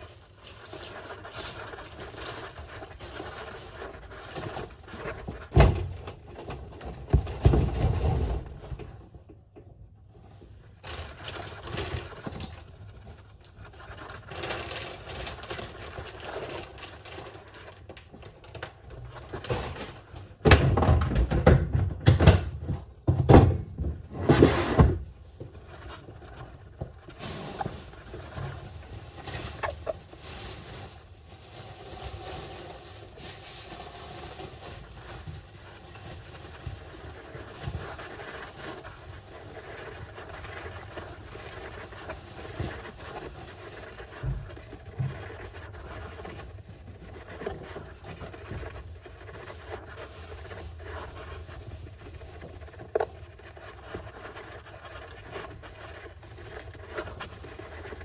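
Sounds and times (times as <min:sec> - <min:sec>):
hamster scratching and rustling: 0:00.0 - 0:09.2, 0:10.1 - 0:20.4, 0:23.8 - 0:58.0.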